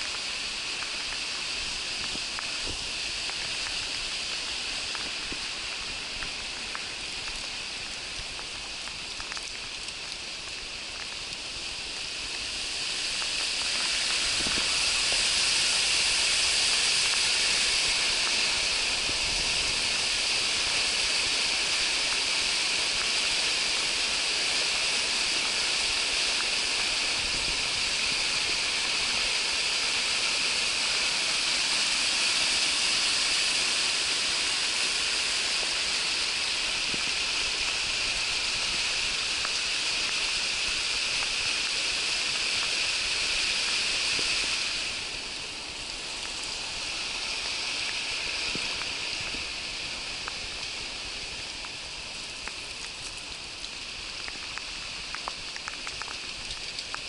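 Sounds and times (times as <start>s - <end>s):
river rushing over shallow bed: 0.0s - 57.0s.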